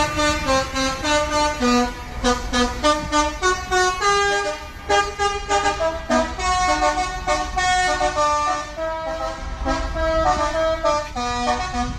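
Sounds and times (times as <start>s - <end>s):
low engine rumble: 0.0s - 11.9s
multi-trumpet air horn melody: 0.0s - 11.9s.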